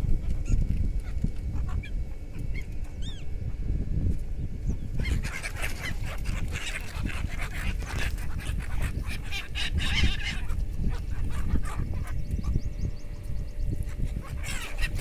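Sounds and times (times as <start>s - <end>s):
flock of birds calling: 0.0s - 3.6s, 4.5s - 15.0s
steady low rumble: 0.0s - 15.0s.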